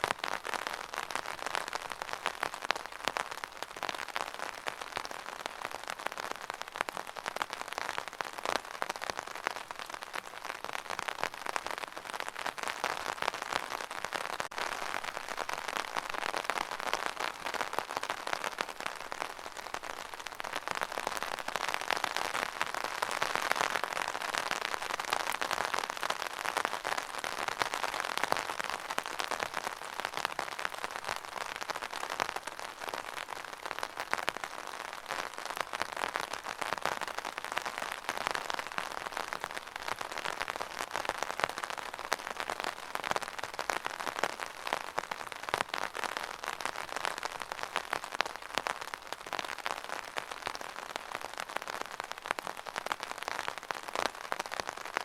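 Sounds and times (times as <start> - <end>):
rain drops pattering: 0.0 - 55.0.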